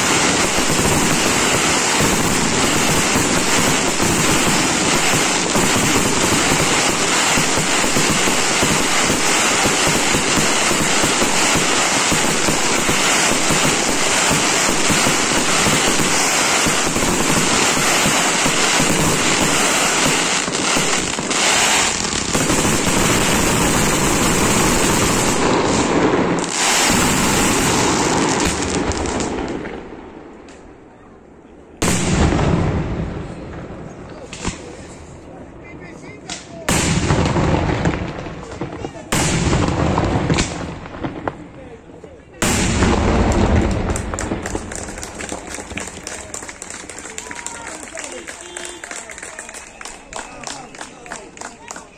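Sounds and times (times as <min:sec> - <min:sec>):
fireworks exploding and crackling: 0:00.0 - 0:51.9.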